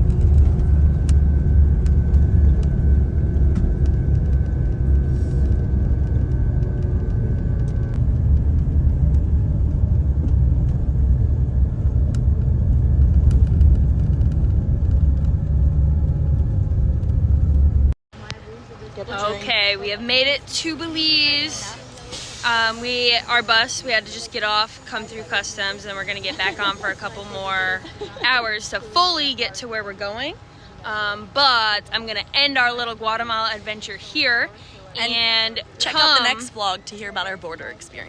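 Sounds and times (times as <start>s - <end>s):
faint steady whine: 0.0s - 38.0s
vehicle engine and road noise: 0.0s - 38.0s.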